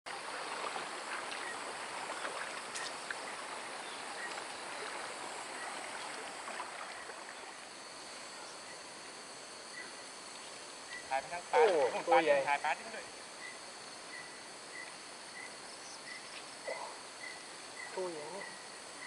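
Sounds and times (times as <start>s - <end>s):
flowing river water: 0.1s - 19.0s.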